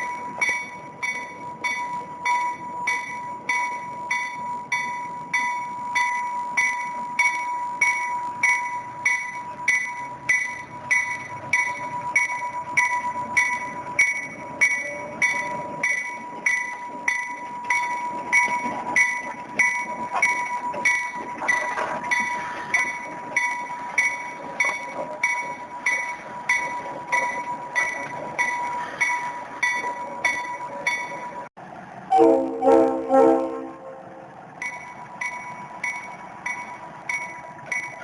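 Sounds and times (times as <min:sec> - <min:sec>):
locomotive bell ringing: 0:00.0 - 0:38.0
steady high-pitched tone: 0:00.0 - 0:38.0.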